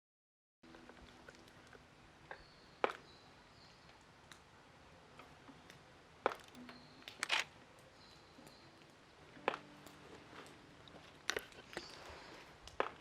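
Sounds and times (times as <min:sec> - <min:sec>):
campfire crackling: 0:00.6 - 0:13.0.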